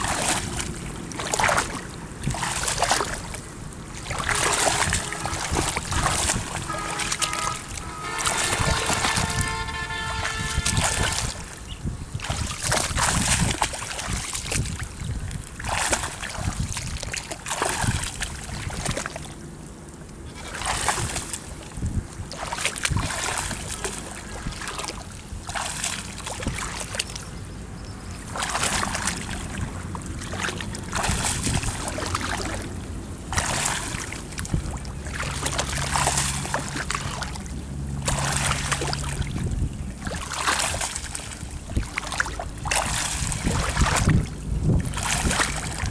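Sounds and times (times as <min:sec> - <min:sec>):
water splashing: 0:00.0 - 0:45.9.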